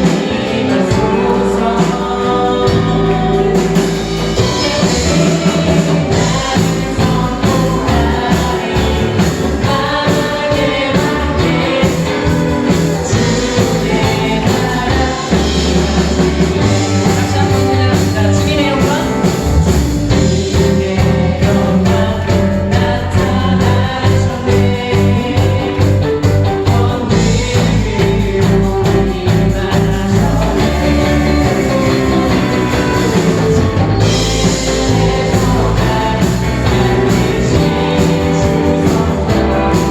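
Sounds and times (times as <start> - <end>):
band playing live: 0.0 - 39.9
voices singing praise song: 0.0 - 39.9.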